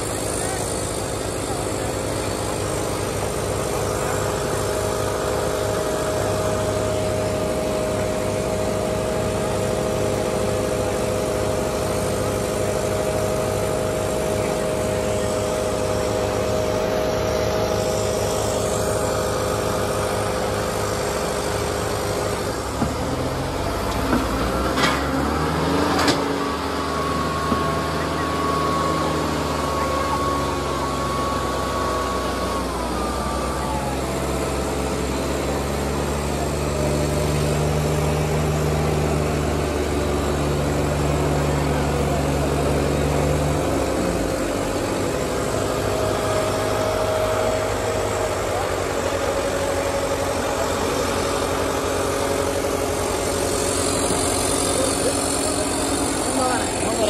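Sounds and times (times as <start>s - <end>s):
steady high tone: 0.0s - 24.0s, 26.2s - 57.0s
diesel tractors running under load: 0.0s - 57.0s.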